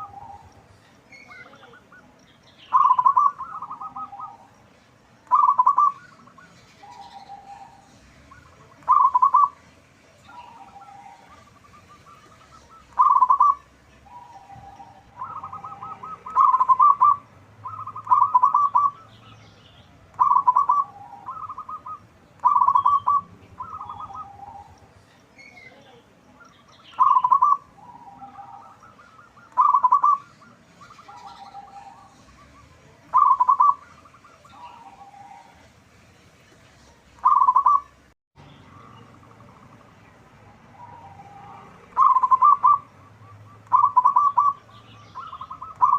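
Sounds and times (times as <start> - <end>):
dove cooing: 0.0 - 2.1, 2.7 - 4.5, 5.2 - 19.4, 20.1 - 24.9, 26.8 - 35.7, 37.2 - 37.9, 38.7 - 45.9.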